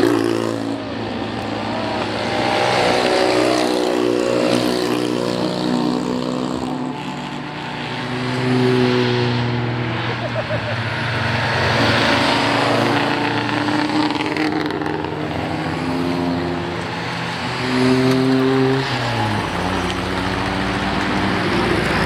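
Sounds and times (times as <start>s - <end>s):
small cars driving past: 0.0s - 22.0s.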